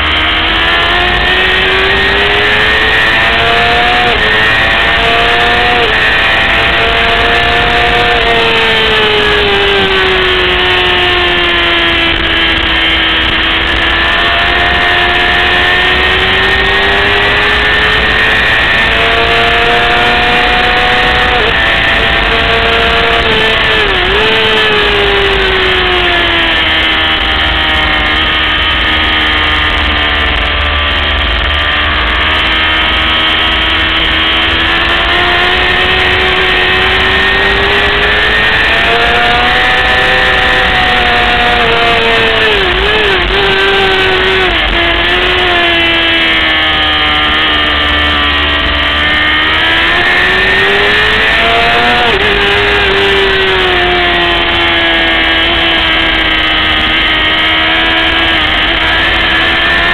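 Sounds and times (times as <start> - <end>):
motorcycle engine revving high: 0.0 - 59.9.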